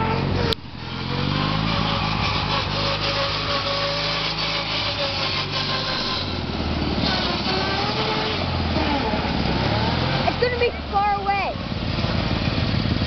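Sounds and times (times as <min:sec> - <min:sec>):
lawn tractor engine running: 0:00.0 - 0:13.0.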